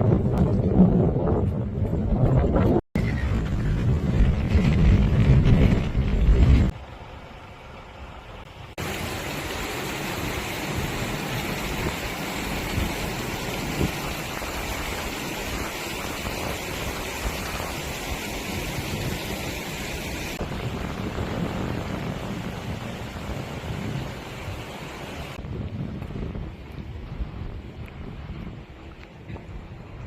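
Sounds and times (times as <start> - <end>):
wind blowing across microphone: 0.0 - 6.8, 8.8 - 30.0.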